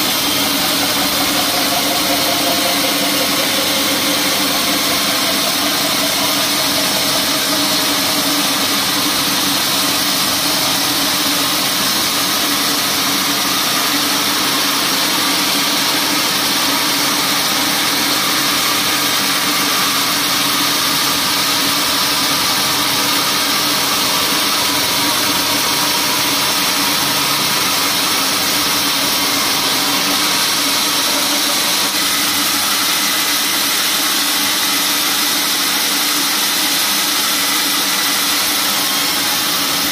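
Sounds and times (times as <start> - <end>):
band sawmill droning: 0.0 - 39.9.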